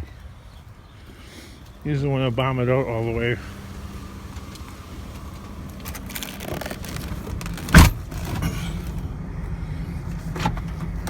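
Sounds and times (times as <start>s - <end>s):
road and engine rumble: 0.0s - 11.0s.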